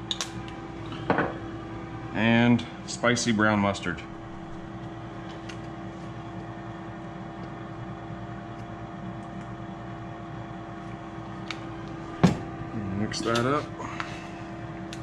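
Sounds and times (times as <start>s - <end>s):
fan motor whirring hum: 0.0s - 15.0s.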